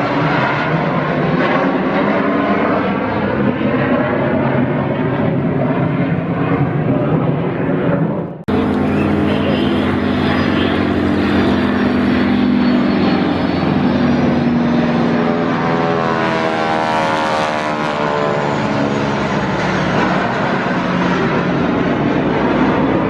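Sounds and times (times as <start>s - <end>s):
propeller aeroplane flying by: 0.0s - 23.0s.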